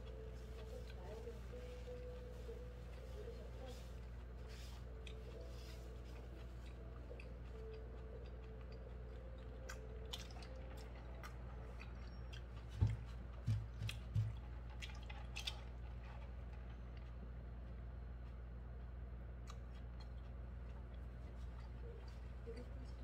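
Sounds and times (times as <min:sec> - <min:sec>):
steady low hum: 0:00.0 - 0:23.0
man chewing: 0:04.0 - 0:23.0.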